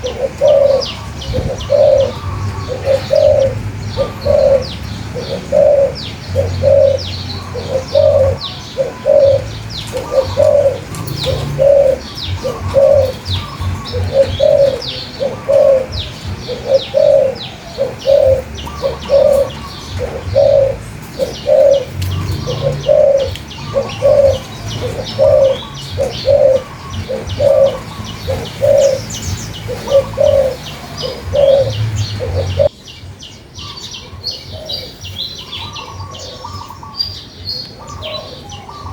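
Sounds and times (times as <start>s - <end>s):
dove cooing: 0.0s - 32.7s, 33.6s - 37.0s, 37.6s - 38.9s
small birds chirping: 0.0s - 38.9s.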